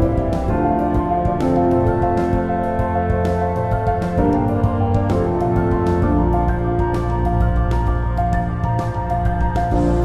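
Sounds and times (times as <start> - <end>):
instrumental music of held chords: 0.0 - 10.0.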